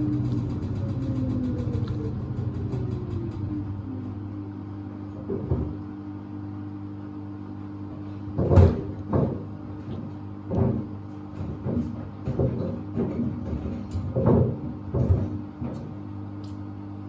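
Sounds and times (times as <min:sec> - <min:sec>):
washer motor hum: 0:00.0 - 0:17.0.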